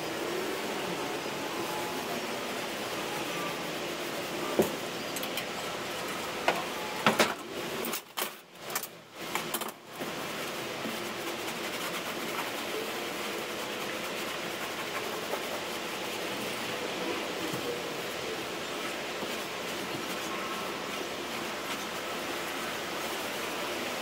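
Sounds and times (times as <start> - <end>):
steady rushing hum: 0.0 - 24.0.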